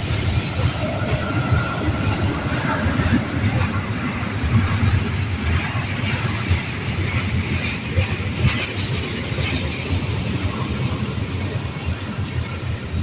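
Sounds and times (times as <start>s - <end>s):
train rolling past rumbling: 0.0s - 13.0s.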